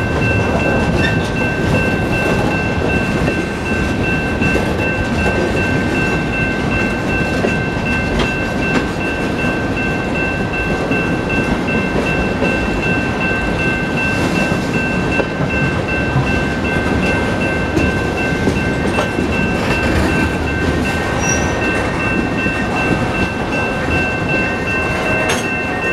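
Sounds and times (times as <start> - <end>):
crossing bell ringing: 0.0 - 25.9
train wheels rumbling on rails: 0.0 - 25.9.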